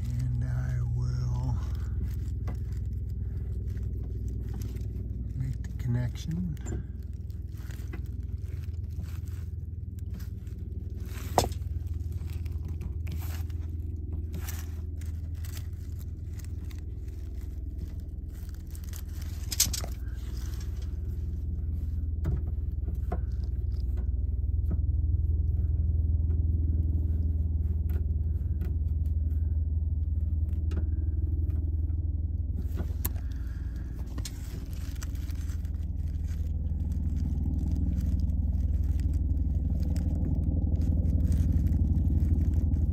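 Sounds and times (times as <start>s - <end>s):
steady low rumble: 0.0s - 42.9s.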